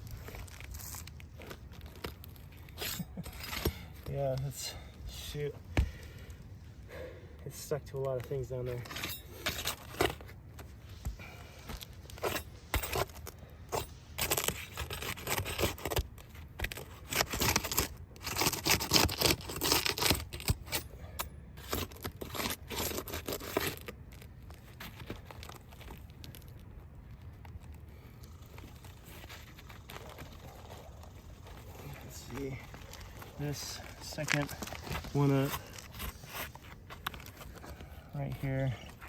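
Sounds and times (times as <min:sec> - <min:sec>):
roof shingle scraping and tearing: 0:00.0 - 0:06.4, 0:08.0 - 0:39.0.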